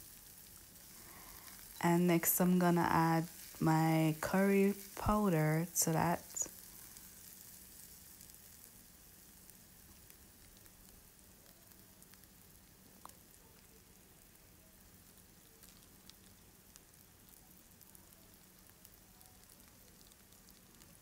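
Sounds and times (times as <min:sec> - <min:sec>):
onion sizzling in oil: 0:00.0 - 0:21.0.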